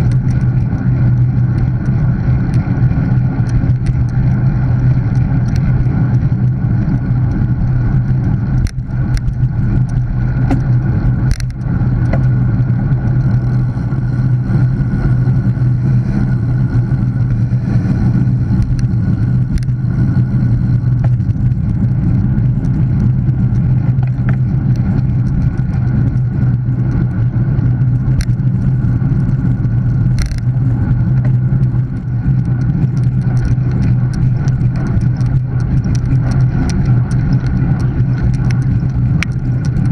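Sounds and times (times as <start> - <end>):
bike tyre road noise: 0.0 - 39.9
wind noise on microphone: 0.0 - 39.9.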